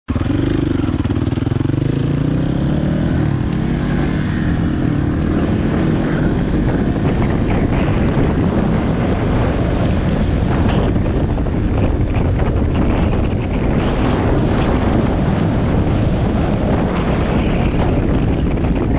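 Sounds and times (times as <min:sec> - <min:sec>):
dirt bike engine: 0:00.1 - 0:18.9
wind noise on microphone: 0:00.1 - 0:18.9.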